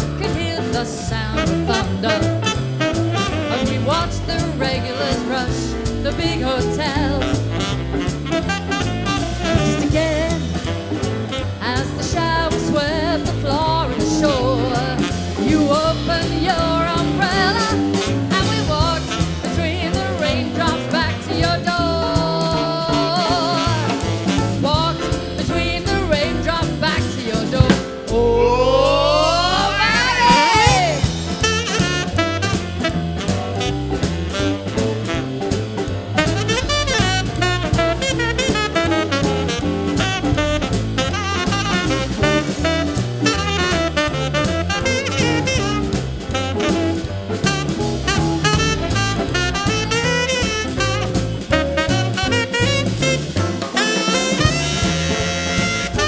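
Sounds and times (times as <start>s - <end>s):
jazz band playing swing: 0.0s - 56.0s.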